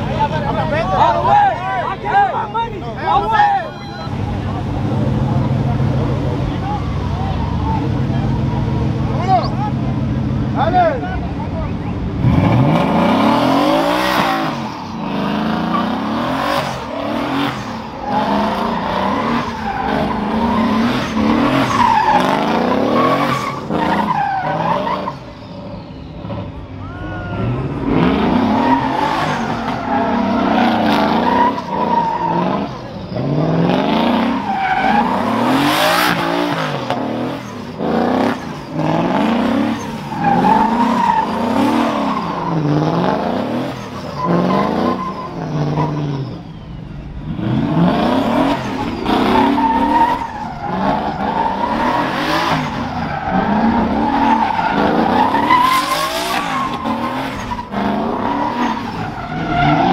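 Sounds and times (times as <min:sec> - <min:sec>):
engines revving: 0:00.0 - 0:59.9
tyre squeal: 0:03.0 - 0:04.3, 0:12.3 - 0:47.1, 0:47.7 - 0:59.9.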